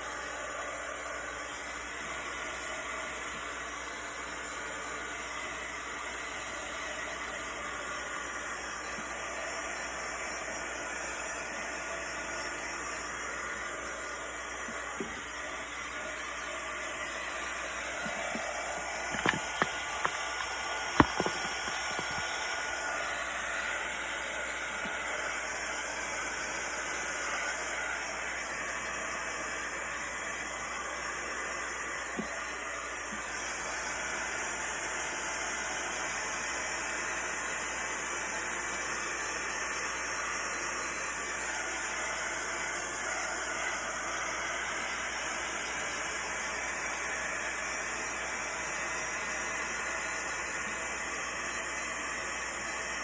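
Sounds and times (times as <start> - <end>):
heat gun blowing hot air: 0.0 - 53.0.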